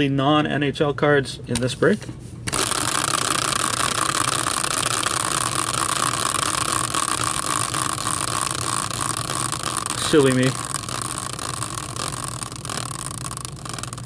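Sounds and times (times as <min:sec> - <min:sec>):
caster wheel whirring: 0:02.5 - 0:14.0.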